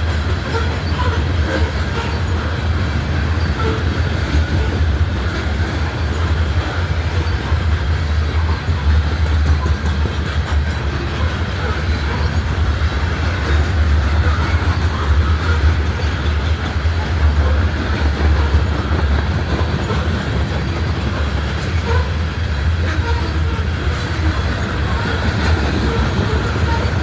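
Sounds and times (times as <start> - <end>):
freight train rolling past: 0.0 - 27.0
steel wheels on rails: 0.0 - 27.0.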